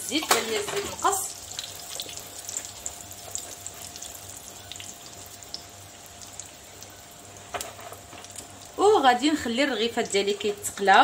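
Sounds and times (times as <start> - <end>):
dough sizzling in oil: 0.0 - 11.0.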